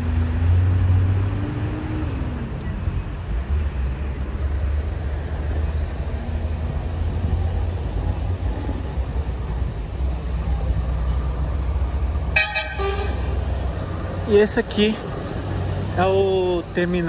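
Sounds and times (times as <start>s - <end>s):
buses and lorries passing: 0.0s - 17.0s
street traffic rumble: 0.0s - 17.0s.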